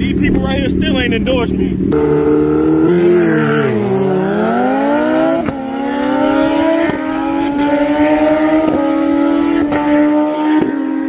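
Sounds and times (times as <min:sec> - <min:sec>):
motorcycles accelerating hard: 0:00.0 - 0:11.0.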